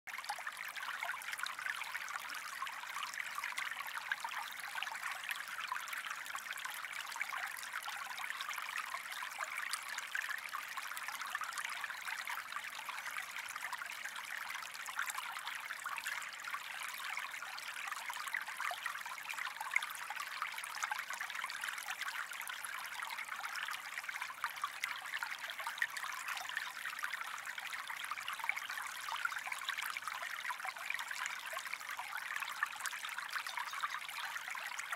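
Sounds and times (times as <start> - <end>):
stream trickling and babbling: 0.1 - 34.9.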